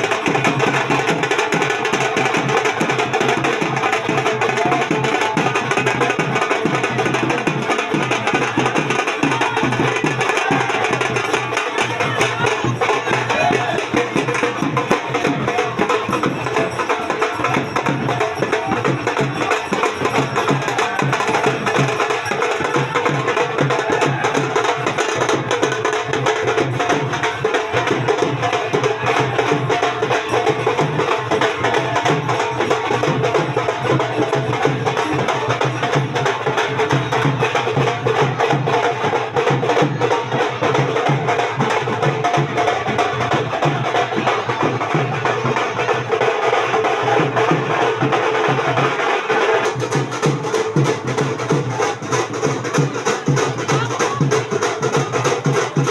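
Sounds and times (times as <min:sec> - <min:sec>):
song with clicking percussion: 0:00.0 - 0:55.9.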